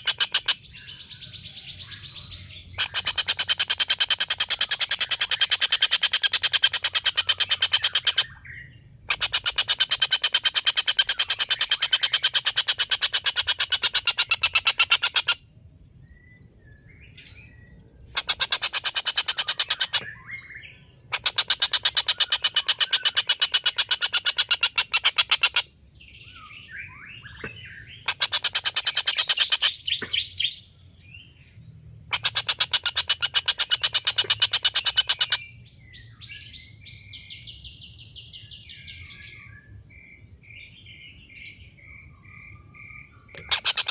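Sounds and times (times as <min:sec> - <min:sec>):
faint bird chirps: 0:00.0 - 0:43.9.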